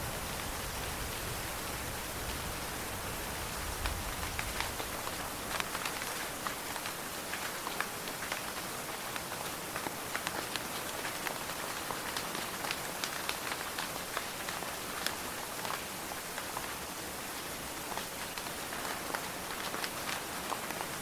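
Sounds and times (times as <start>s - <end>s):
raindrops hitting close by: 0.0s - 21.0s
steady rain: 0.0s - 21.0s.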